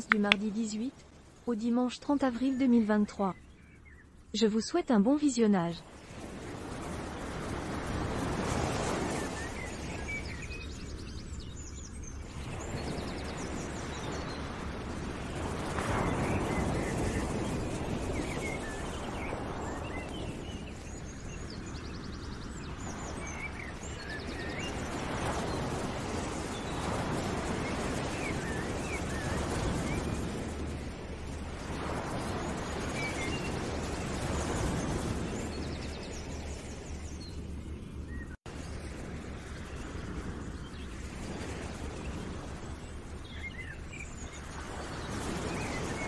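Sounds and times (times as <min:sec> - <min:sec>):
birds chirping and trilling: 0:00.0 - 0:07.6, 0:08.5 - 0:30.6, 0:31.6 - 0:38.4, 0:39.7 - 0:46.0
steady rushing noise: 0:00.0 - 0:46.0.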